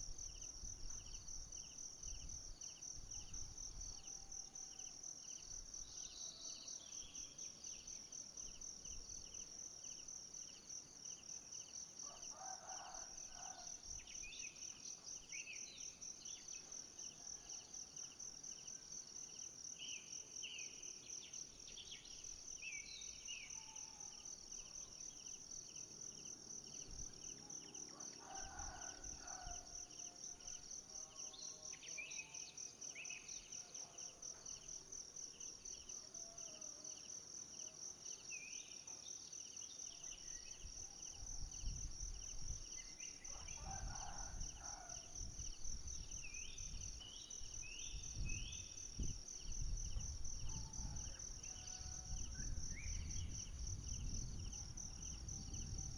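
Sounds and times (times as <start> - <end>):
insects chorus pulsing: 0.0 - 37.1, 39.5 - 55.9.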